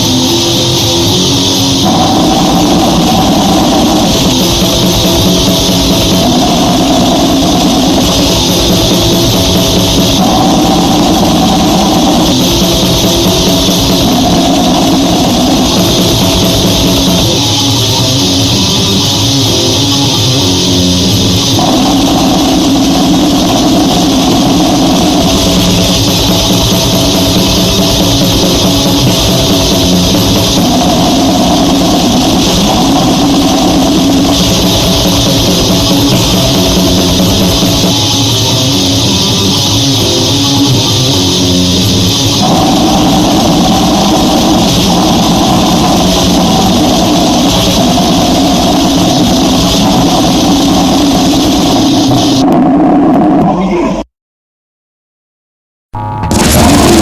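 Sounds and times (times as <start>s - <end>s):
fast drumming: 0.0s - 52.5s, 56.3s - 57.0s
distorted guitar riffs: 0.0s - 54.0s, 56.0s - 57.0s.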